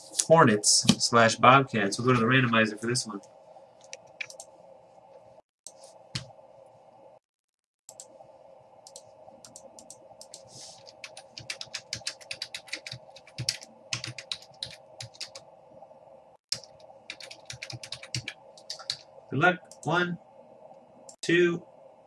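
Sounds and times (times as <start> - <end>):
faint steady hum: 0.0 - 7.3, 7.9 - 22.0.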